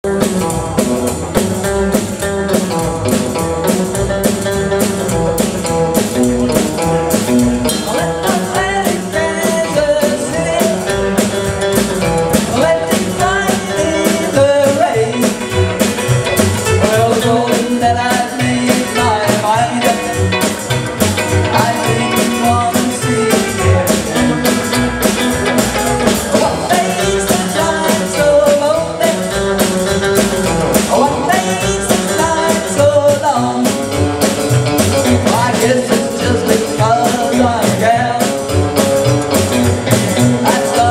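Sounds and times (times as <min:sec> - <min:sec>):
drums beating: 0:00.0 - 0:40.9
guitar: 0:00.0 - 0:40.9
rock band playing: 0:00.0 - 0:40.9
person singing: 0:02.6 - 0:16.0, 0:16.6 - 0:40.9.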